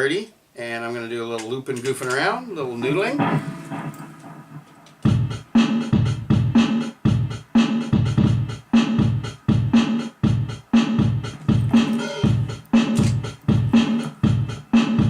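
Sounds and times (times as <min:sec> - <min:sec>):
looped drum beat: 0:02.8 - 0:15.0.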